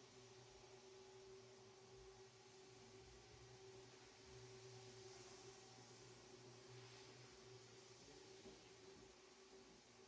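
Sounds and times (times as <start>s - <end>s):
faint steady hum and hiss: 0.0s - 10.0s.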